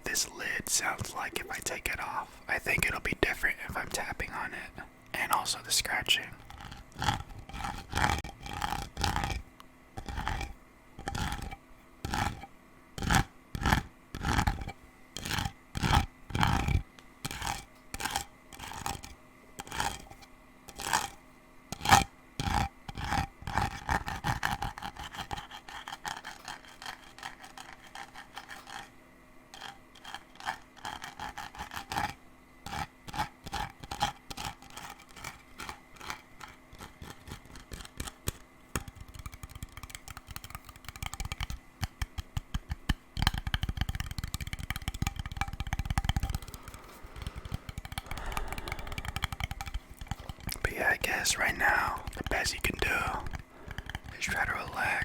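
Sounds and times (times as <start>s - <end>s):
scratching and tapping on container: 0.0s - 28.9s, 29.5s - 55.0s.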